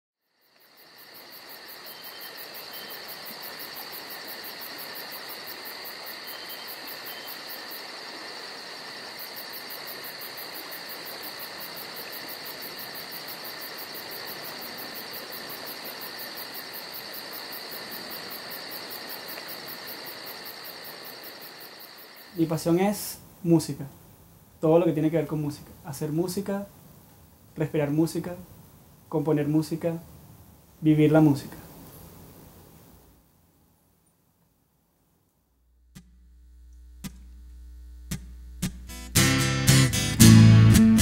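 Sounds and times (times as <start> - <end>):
crickets trilling: 0.2 - 33.2, 35.7 - 39.6.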